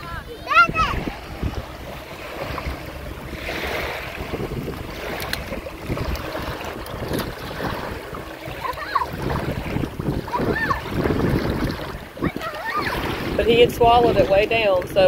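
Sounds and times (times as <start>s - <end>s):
small waves lapping: 0.0s - 15.0s
wind buffeting microphone: 0.0s - 15.0s.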